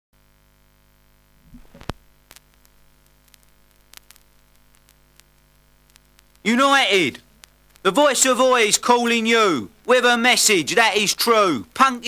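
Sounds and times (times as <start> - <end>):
faint steady hum: 0.2 - 12.0
vinyl record crackle: 0.2 - 12.0.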